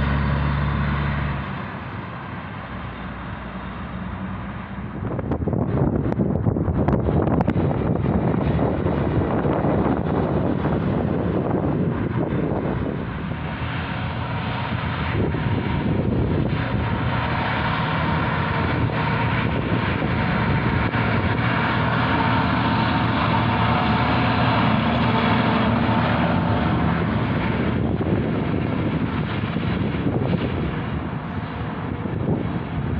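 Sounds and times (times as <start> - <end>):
tractor engine: 0.0 - 32.9
truck diesel engine and tyres: 0.0 - 32.9
wind on microphone: 4.9 - 32.9.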